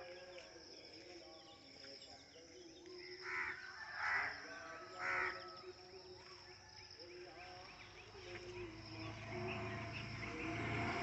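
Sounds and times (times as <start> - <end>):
loud bird calls: 0.0 - 11.0.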